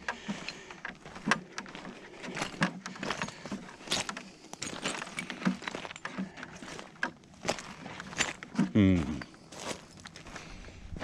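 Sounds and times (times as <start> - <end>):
footsteps crunching on rock: 0.0 - 11.0.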